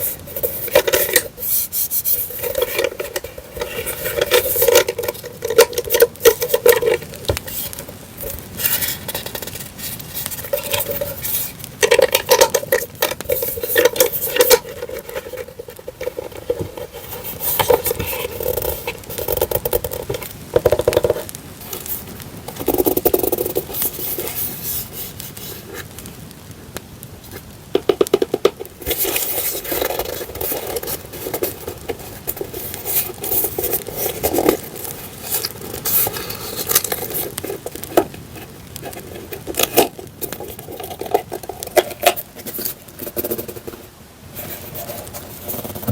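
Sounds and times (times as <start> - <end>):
paper rustling and scraping: 0.0 - 26.1, 27.2 - 45.9
campfire crackling: 0.0 - 45.9.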